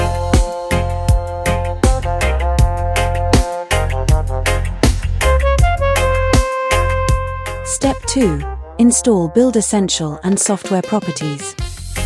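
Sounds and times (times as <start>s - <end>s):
bass line: 0.0s - 10.4s.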